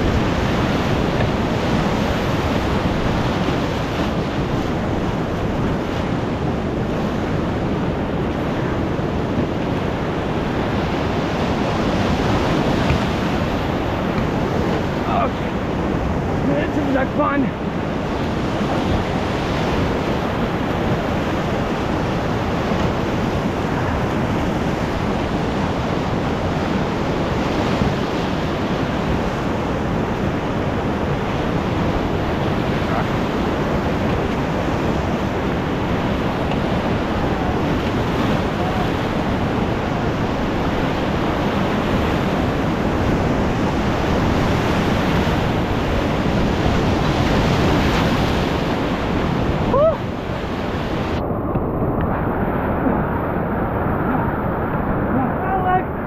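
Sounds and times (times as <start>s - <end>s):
waves splashing against boat: 0.0s - 56.0s
whitewater rushing: 0.0s - 56.0s.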